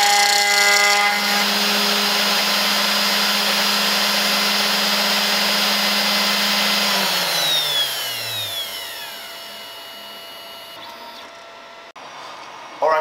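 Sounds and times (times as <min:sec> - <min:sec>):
router spindle whining: 0:00.0 - 0:11.9.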